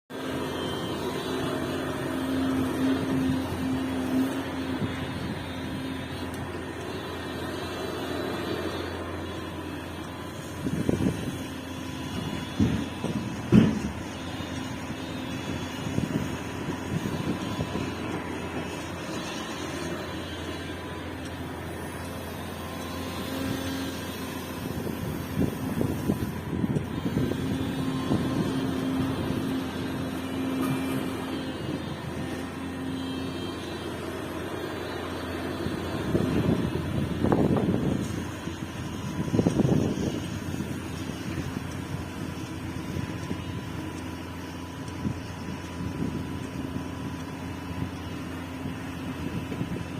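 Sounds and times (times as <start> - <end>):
excavator engine and hydraulics: 0.1 - 49.9.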